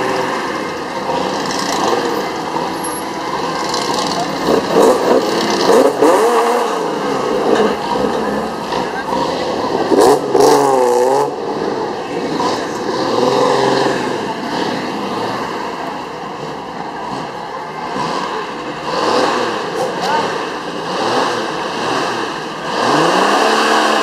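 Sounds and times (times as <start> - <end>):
cars driving slowly past: 0.0 - 24.0
people's voices: 0.0 - 24.0.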